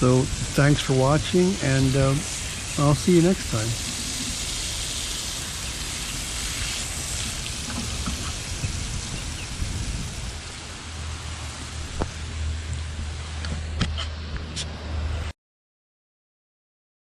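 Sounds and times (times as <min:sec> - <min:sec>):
water spraying onto soil: 0:00.0 - 0:13.8.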